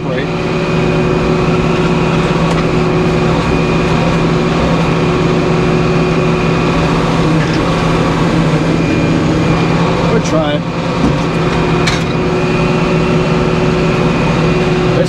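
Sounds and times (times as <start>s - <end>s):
bandsaw sawmill running: 0.0s - 15.0s.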